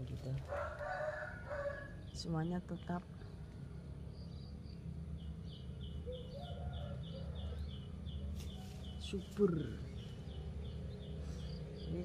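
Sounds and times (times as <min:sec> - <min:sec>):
low outdoor background rumble: 0:00.0 - 0:12.0.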